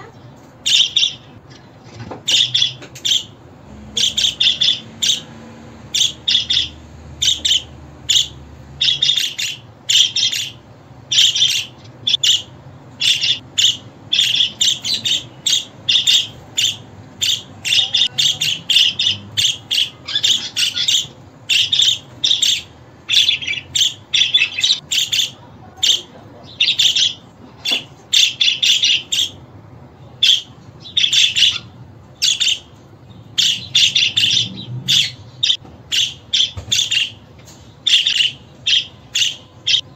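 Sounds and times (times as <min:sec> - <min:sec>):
budgerigars chirping and chattering: 0:00.1 - 0:39.9.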